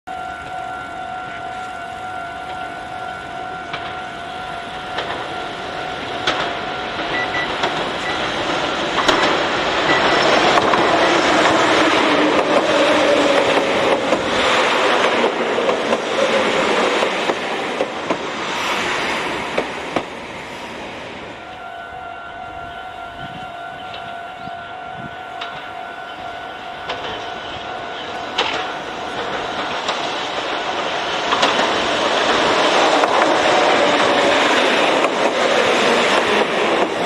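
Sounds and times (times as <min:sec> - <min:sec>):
train running on rails: 0:00.1 - 0:37.0
train whine passing: 0:00.1 - 0:37.0.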